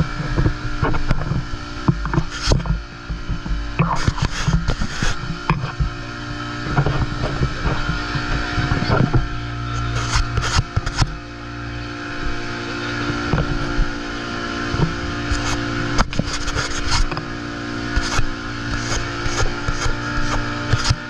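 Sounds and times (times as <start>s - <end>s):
boat engine running: 0.0s - 21.0s
noisy rush: 0.0s - 21.0s.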